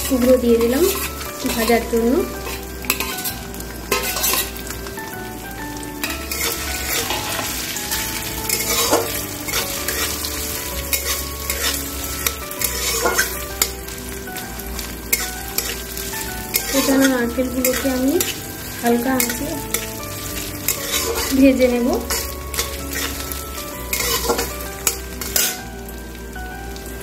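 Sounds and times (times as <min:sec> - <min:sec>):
metal spatula scraping pan: 0:00.0 - 0:04.7, 0:06.0 - 0:25.7
food sizzling in hot oil: 0:00.0 - 0:27.0.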